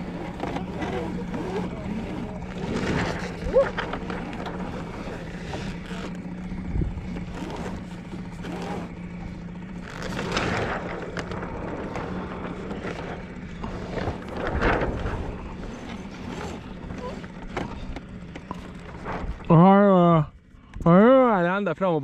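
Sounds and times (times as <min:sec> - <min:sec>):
water noise: 0:00.0 - 0:19.8
small boat engine humming: 0:00.0 - 0:22.0.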